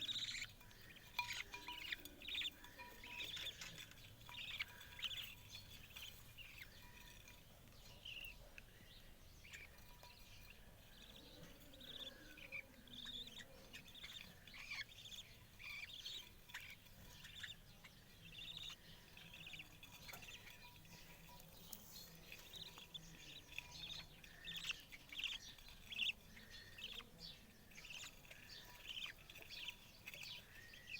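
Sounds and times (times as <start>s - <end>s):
budgerigars chirping: 0.0s - 30.9s.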